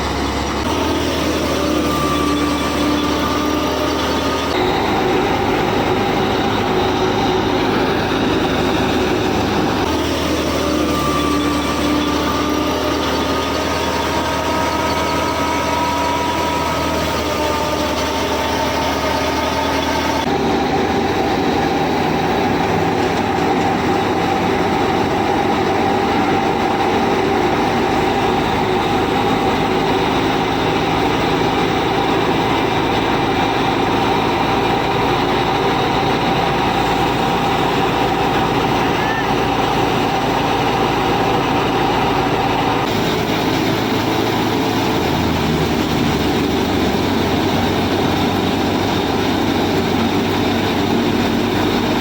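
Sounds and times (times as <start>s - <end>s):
machine whining: 0.0s - 52.0s.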